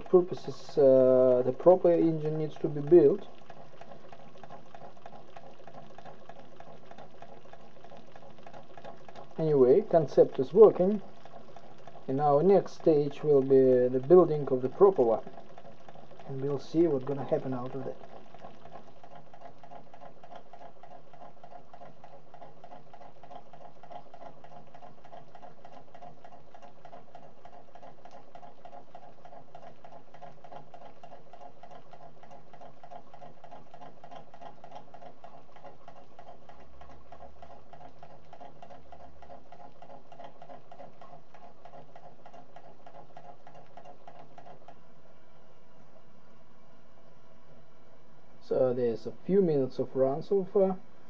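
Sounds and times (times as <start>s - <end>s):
model engine pattering and ticking: 0.0s - 44.8s.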